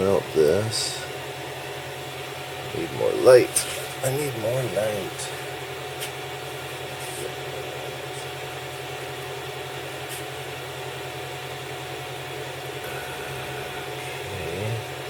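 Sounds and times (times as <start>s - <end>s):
printer motors and fans humming: 0.0s - 15.0s
steady high whine: 0.0s - 15.0s.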